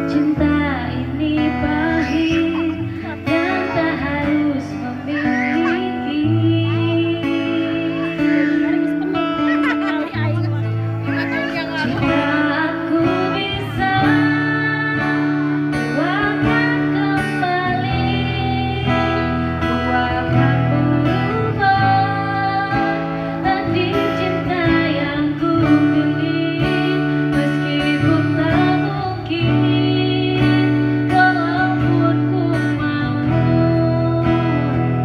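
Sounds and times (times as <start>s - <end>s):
person singing: 0.0s - 10.0s, 11.1s - 35.0s
acoustic guitar: 0.0s - 35.0s.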